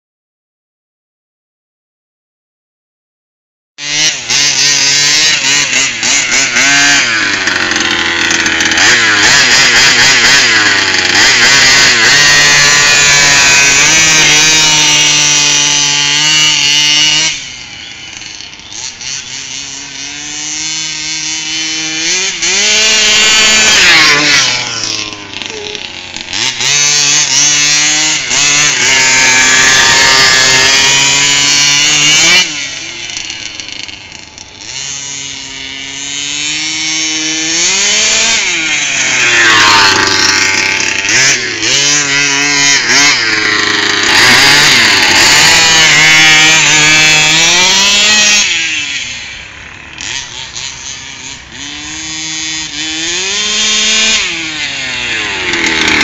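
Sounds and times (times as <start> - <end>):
small engine revving: 3.8 - 56.0.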